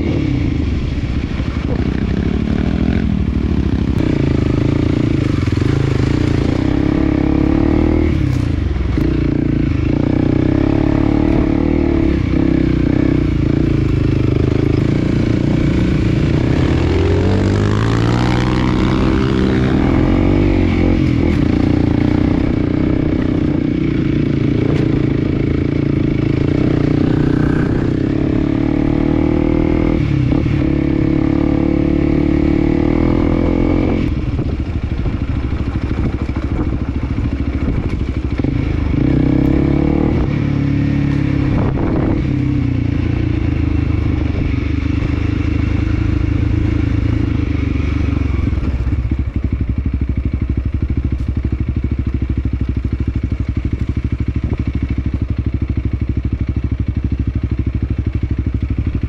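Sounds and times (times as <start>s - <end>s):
small motorcycle engine revving: 1.6s - 49.7s.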